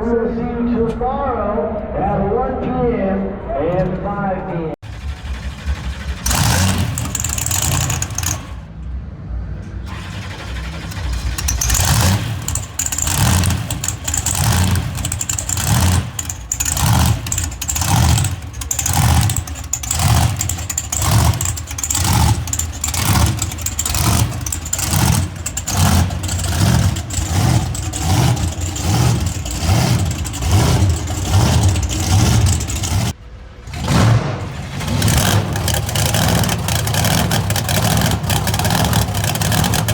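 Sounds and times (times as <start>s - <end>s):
truck engine revving: 4.8s - 8.8s, 9.6s - 39.9s.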